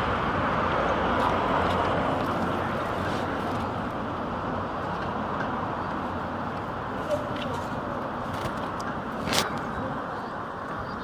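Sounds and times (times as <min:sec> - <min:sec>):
street traffic passing: 0:00.0 - 0:11.0.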